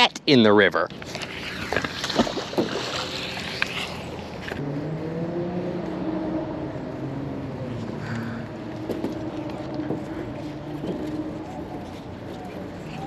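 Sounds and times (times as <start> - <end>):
engine running: 1.8 - 12.9.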